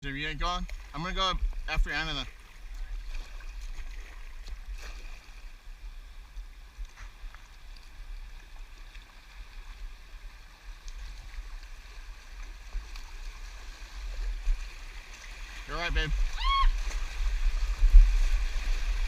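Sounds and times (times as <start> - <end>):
river water flowing: 0.1 - 19.0.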